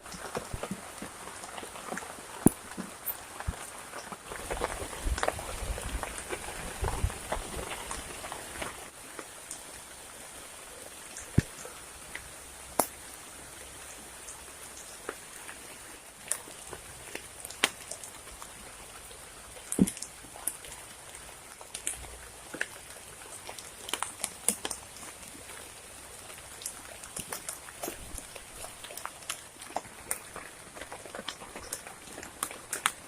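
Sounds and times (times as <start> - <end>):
heavy raindrops ticking: 0.0 - 10.0, 11.0 - 33.0
rain falling: 0.0 - 33.0.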